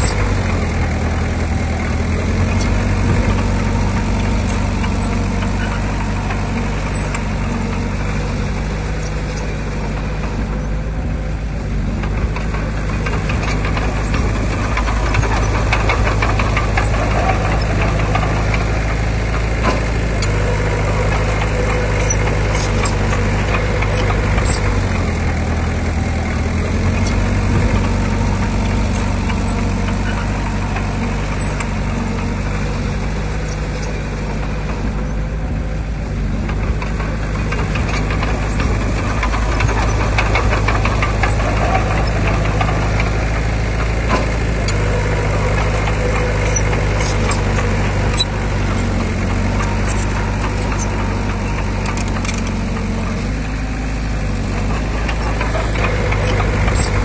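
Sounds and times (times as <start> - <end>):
clanks and rattles: 0.0 - 57.0
diesel engine running: 0.0 - 57.0.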